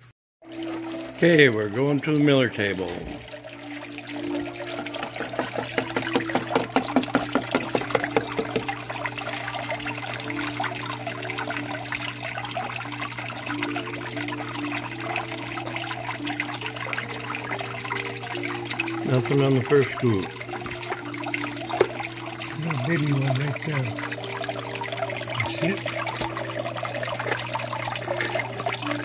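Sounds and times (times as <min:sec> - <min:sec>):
water trickling over table: 0:00.5 - 0:29.0.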